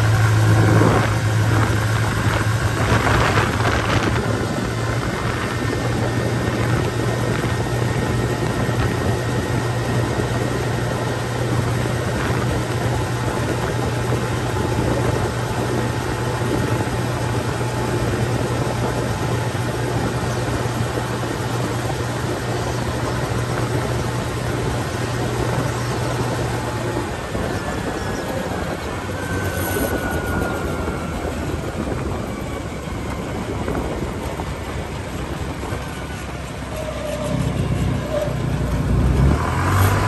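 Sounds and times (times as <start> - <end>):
go-kart engine droning: 0.0 - 40.0
tyre noise on dirt road: 0.0 - 40.0.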